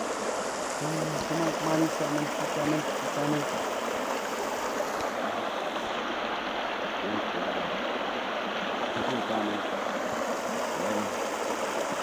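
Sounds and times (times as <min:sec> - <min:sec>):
creek rushing over gravel: 0:00.0 - 0:12.0.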